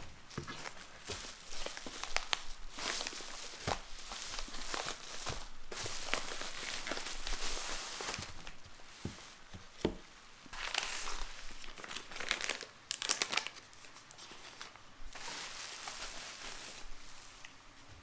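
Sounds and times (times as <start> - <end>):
plastic packaging crinkling: 0.2 - 9.4, 10.5 - 17.5.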